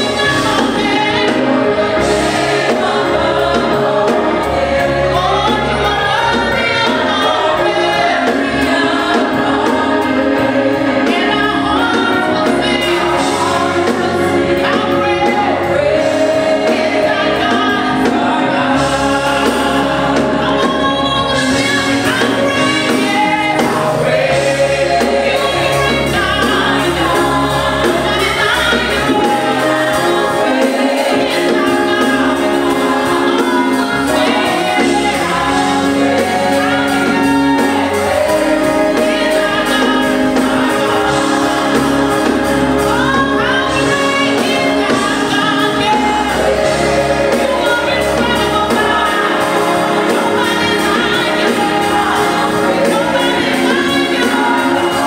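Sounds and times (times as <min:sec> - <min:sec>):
group singing gospel: 0:00.0 - 0:55.0
instrumental backing: 0:00.0 - 0:55.0.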